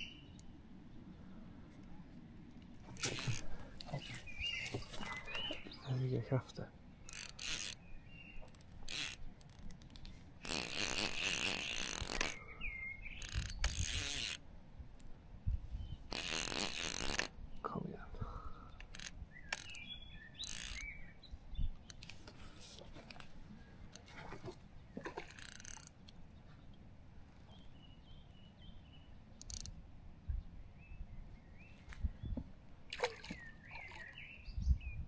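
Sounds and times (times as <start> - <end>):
birds chirping: 0.0 - 2.2, 3.0 - 9.2, 10.0 - 14.4, 17.4 - 22.8, 23.5 - 35.0.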